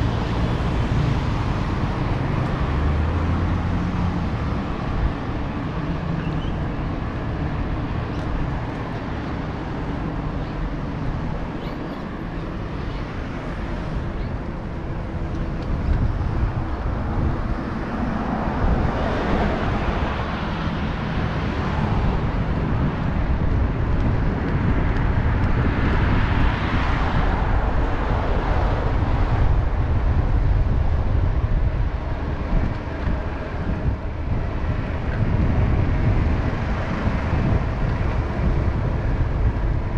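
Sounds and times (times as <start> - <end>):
road traffic: 0.0 - 39.9
wind buffeting microphone: 0.0 - 39.9.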